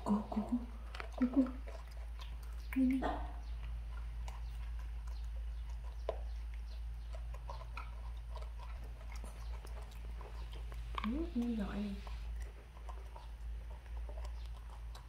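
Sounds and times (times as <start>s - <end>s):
monkeys chewing: 0.0s - 15.0s
steady low hum: 0.0s - 15.0s.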